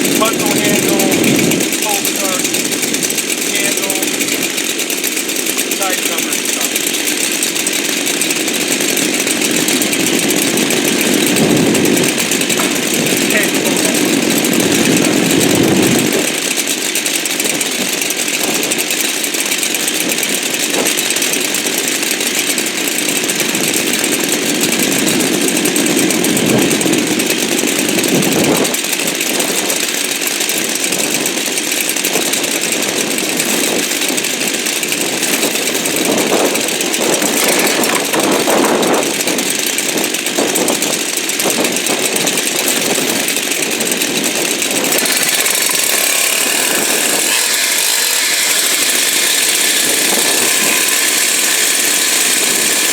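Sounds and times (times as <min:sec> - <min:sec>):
chainsaw running: 0:00.0 - 0:52.9.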